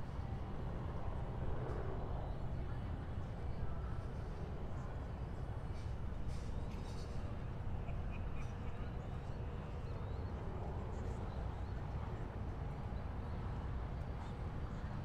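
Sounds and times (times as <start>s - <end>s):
distant city and water traffic rumble: 0.0s - 15.0s.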